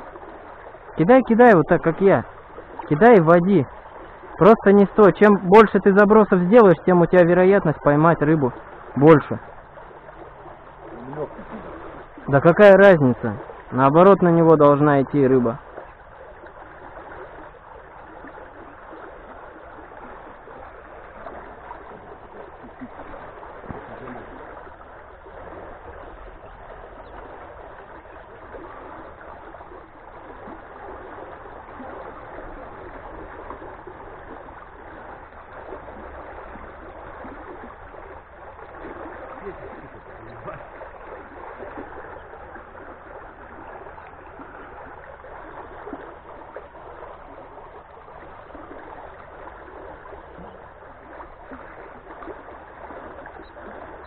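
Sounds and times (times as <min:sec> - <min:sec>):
water rushing and gurgling from a pipe: 0:00.0 - 0:54.0.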